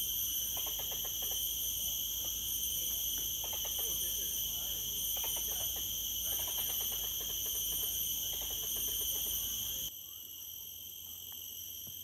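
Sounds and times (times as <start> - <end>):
rapid pulsing insect chatter: 0.0 - 12.0
shrill insect drones: 0.0 - 12.0.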